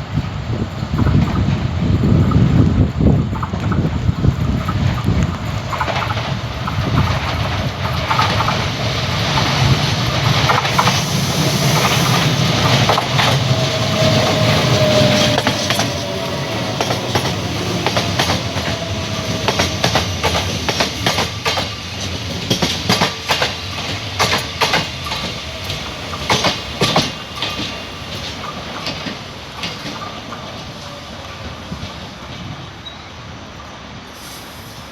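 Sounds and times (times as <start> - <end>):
train rumbling on rails: 0.0 - 34.9
wheels clicking over rail joints: 0.8 - 30.8.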